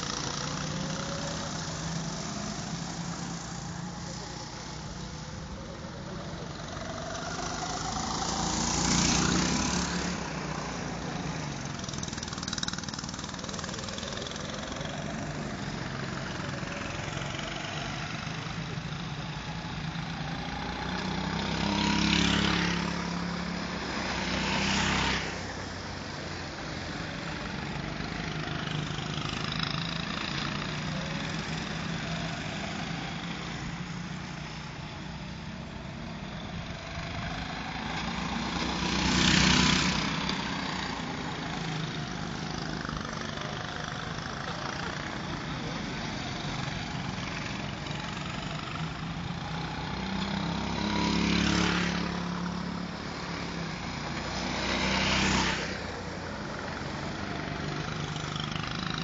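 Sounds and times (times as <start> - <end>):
go-kart engines revving past: 0.0 - 59.0.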